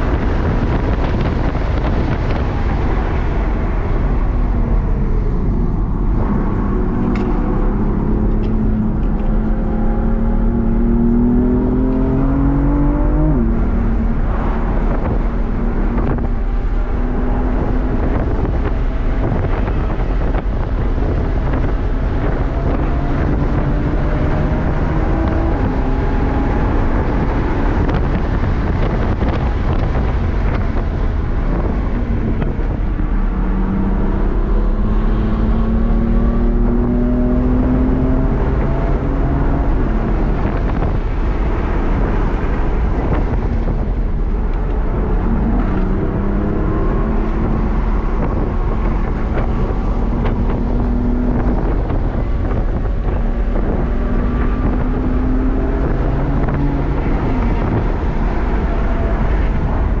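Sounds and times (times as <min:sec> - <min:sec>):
car engine accelerating hard: 0:00.0 - 1:00.0
road and wind noise: 0:00.0 - 1:00.0.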